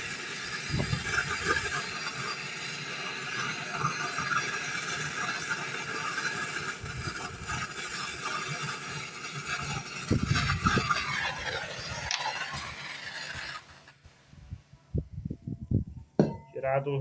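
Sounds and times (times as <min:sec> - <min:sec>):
torch flame hissing: 0:00.0 - 0:14.6.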